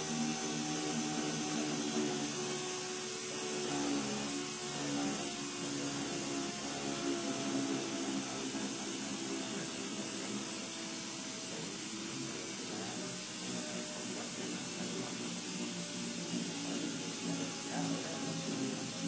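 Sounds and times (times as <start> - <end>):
power drill motor hum: 0.0 - 19.0
sanding disc scrubbing hiss: 0.0 - 19.0.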